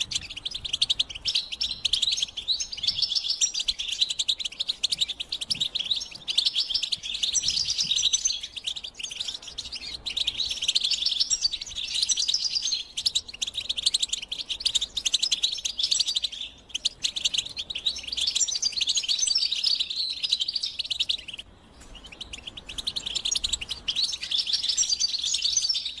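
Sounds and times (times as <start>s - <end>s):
goldfinch twittering song: 0.0s - 26.0s.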